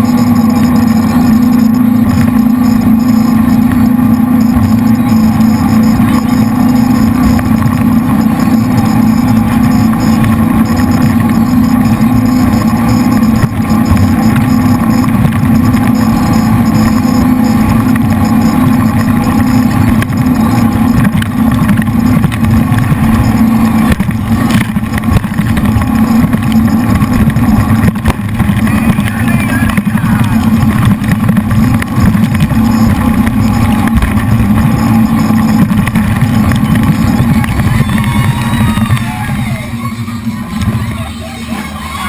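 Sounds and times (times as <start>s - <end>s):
boat engines droning: 0.0s - 42.0s.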